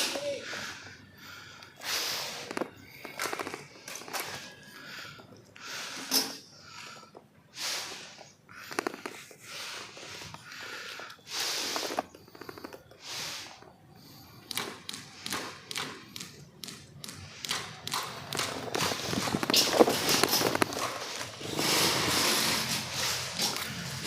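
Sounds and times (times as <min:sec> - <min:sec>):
person breathing hard: 0:00.0 - 0:16.5, 0:17.1 - 0:24.0.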